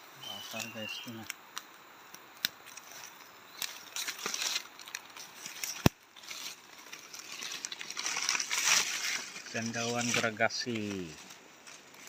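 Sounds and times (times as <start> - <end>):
leaves rustling and crackling: 0.0 - 12.0.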